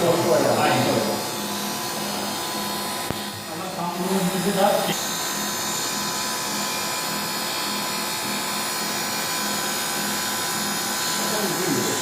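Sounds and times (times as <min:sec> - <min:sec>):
high-pitched machine whine: 0:00.0 - 0:12.0
mechanical drone: 0:00.0 - 0:12.0.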